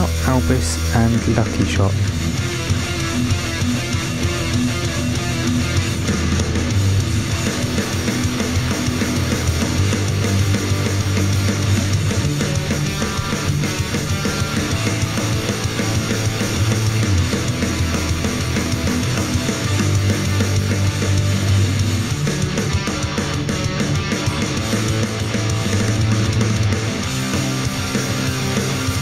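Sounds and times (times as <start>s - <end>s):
rock music through speaker: 0.0s - 29.0s.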